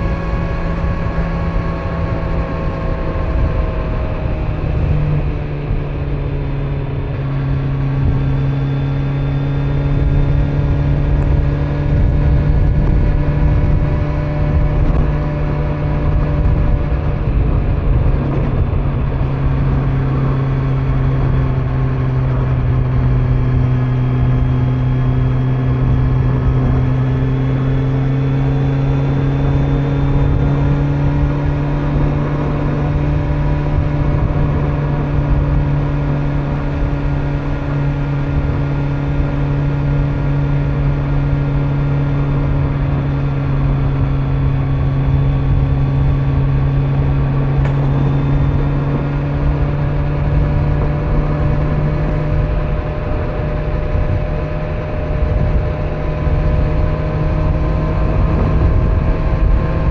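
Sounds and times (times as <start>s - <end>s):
motorcycle engine cruising: 0.0s - 59.9s
tyre and wind noise: 0.0s - 59.9s.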